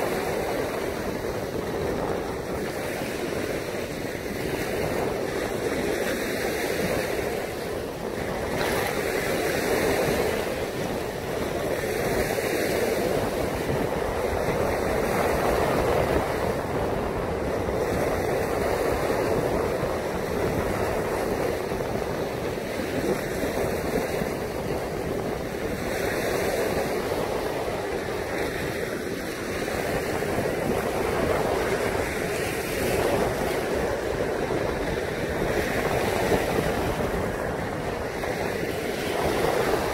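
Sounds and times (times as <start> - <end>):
lake surf washing on shore: 0.0 - 39.9
wind buffeting microphone: 0.0 - 39.9.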